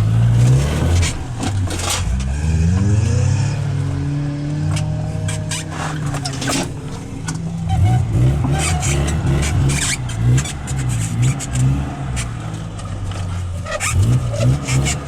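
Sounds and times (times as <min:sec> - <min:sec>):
vehicle engine revving under load: 0:00.0 - 0:15.0.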